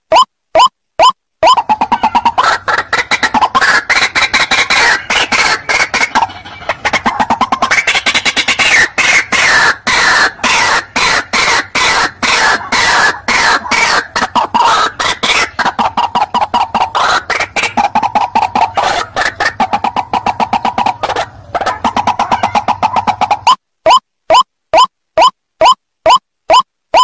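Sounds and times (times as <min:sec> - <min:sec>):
waterhen croaking call: 0:00.1 - 0:27.0.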